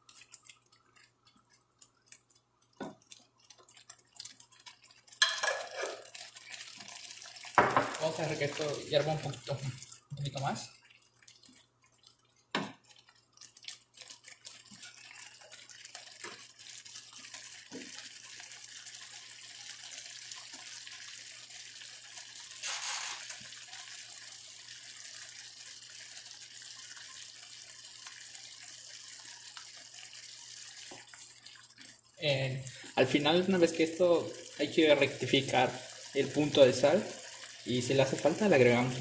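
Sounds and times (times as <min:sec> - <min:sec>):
sauce simmering and bubbling: 0:00.0 - 0:39.0.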